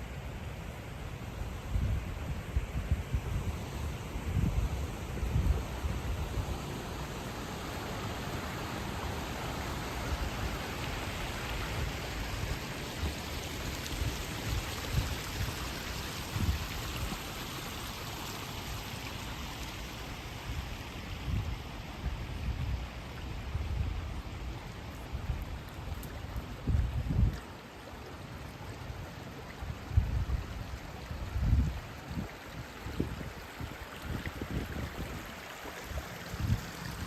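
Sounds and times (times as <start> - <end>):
river flowing: 0.0 - 37.0.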